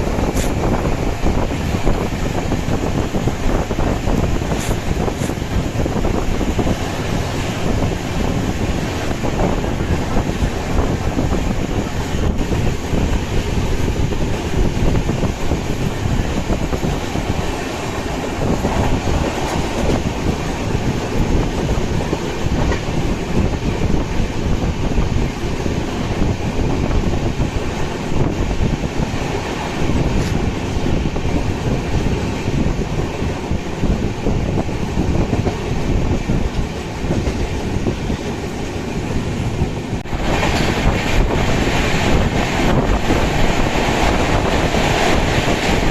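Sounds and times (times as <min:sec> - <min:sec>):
train coaches rattling: 0:00.0 - 0:45.9
train wheels rumbling on rails: 0:00.0 - 0:45.9.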